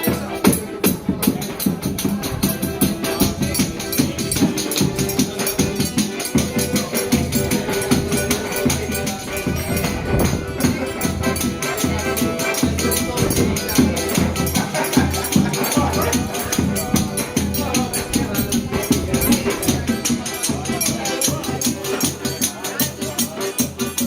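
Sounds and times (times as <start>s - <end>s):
accordion melody: 0.0s - 24.0s
jingling percussion: 0.0s - 24.0s.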